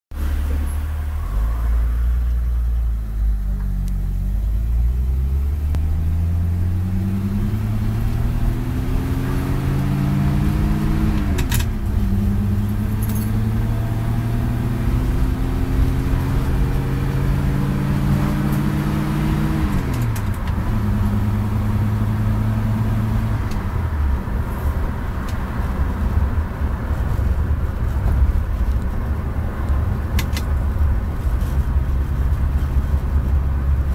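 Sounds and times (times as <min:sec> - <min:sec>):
car engine shifting gears: 0:00.2 - 0:33.9.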